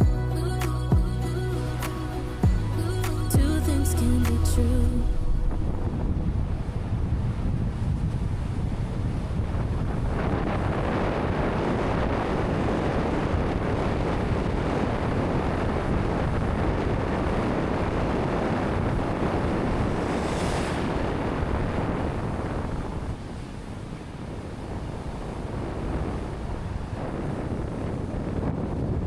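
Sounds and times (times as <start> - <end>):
sea surf: 0.0 - 29.0
wind roaring over microphone: 0.0 - 29.0.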